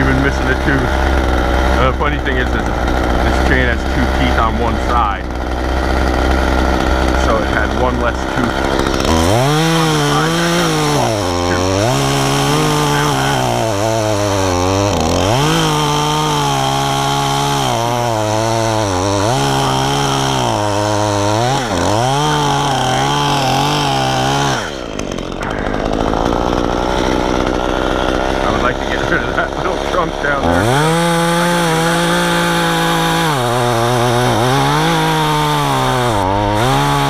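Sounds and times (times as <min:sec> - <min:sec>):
chainsaw revving and cutting wood: 0:00.0 - 0:37.0.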